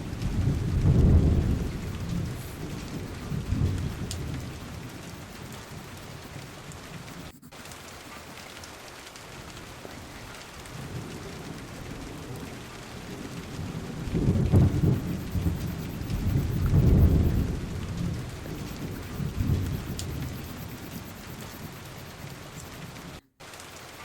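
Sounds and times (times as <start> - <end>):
thunder rumbling: 0.0 - 7.3, 9.3 - 23.2
steady rain: 0.0 - 24.0.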